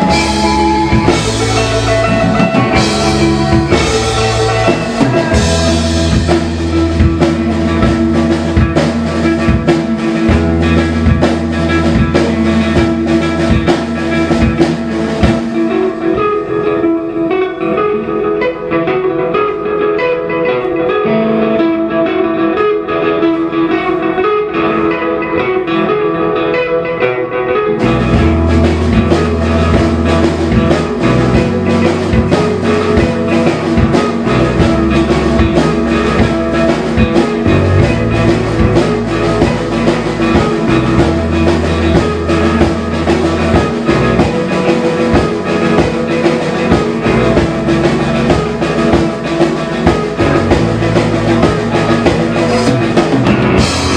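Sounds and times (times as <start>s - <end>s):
live rock band playing: 0.0s - 53.9s
picked electric guitar: 0.0s - 53.9s.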